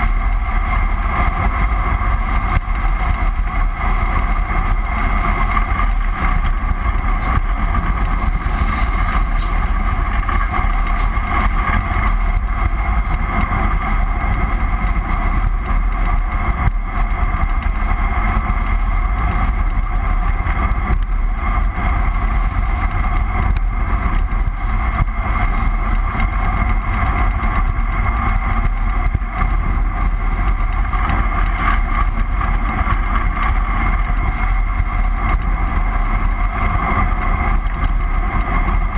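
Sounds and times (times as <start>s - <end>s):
low rumble: 0.0s - 31.3s
wind rushing over camera: 0.0s - 38.9s.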